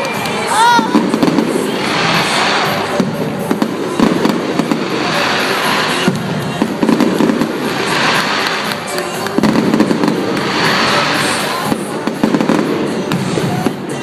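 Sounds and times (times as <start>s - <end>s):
fireworks bangs and crackles: 0.0s - 14.0s
pop music over loudspeakers: 0.0s - 14.0s.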